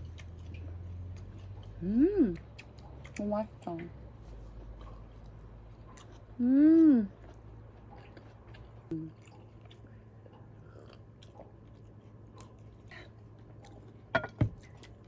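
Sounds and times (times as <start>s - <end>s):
person chewing food: 0.0s - 3.2s, 4.2s - 15.0s
low steady hum: 0.0s - 15.0s.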